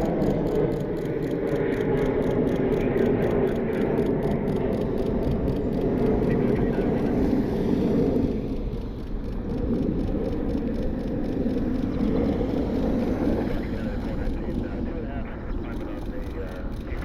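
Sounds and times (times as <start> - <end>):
low rumble of vehicles: 0.0 - 17.0.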